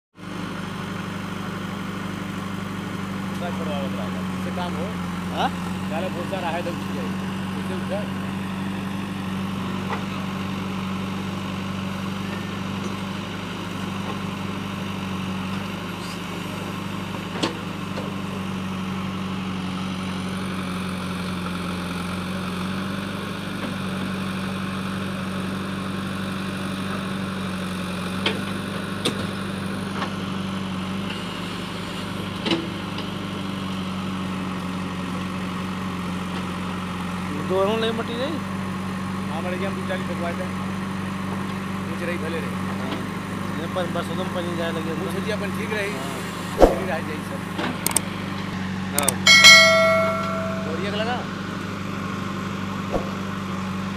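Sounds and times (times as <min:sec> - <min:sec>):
diesel engine running: 0:00.2 - 0:53.9.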